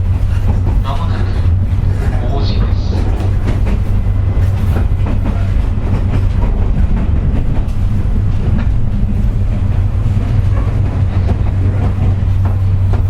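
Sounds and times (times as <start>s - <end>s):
train interior drone: 0.0s - 13.0s.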